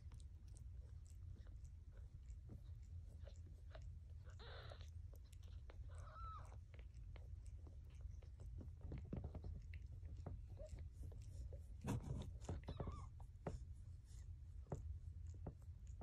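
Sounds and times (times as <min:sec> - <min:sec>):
cat licking kittens: 0:00.0 - 0:16.0.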